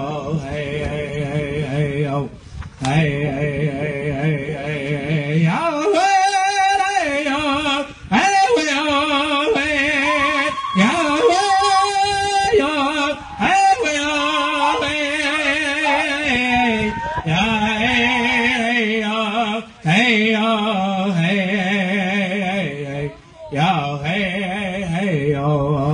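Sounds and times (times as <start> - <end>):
man singing: 0.0 - 25.9.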